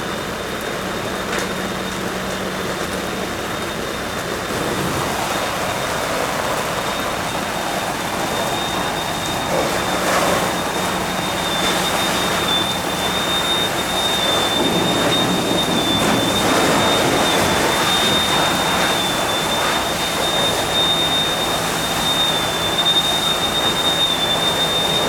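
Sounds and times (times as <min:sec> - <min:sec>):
pump engine humming: 0:00.0 - 0:25.0
high-pitched whine: 0:02.9 - 0:25.0
rushing water stream: 0:04.2 - 0:25.0.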